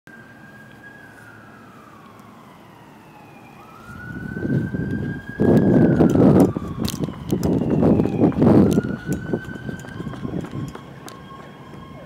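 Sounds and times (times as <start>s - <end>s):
police siren wailing: 0.1s - 12.0s.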